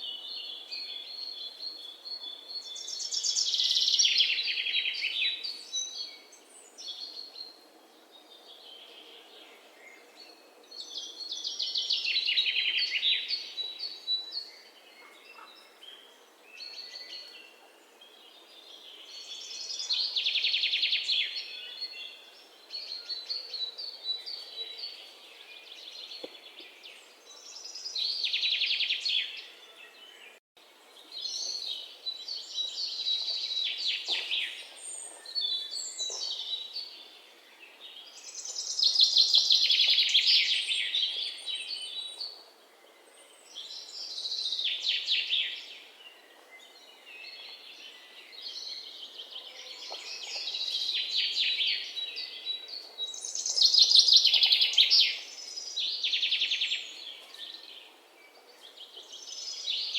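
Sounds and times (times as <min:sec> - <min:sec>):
faint outdoor hiss: 0:00.0 - 0:59.9.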